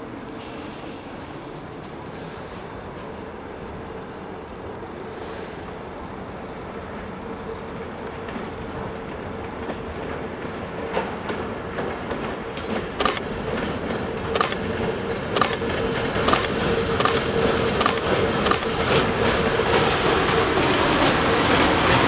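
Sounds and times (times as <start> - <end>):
freight train rumbling: 0.0 - 22.0
wheels clacking on rail joints: 0.0 - 22.0.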